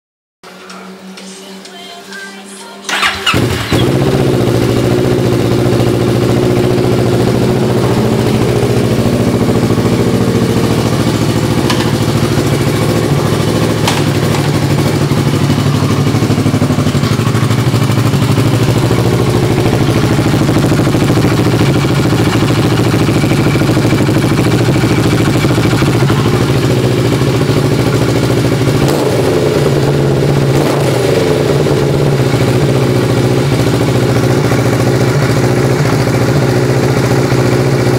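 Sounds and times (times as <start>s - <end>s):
motorcycle engine idling: 2.9s - 37.9s.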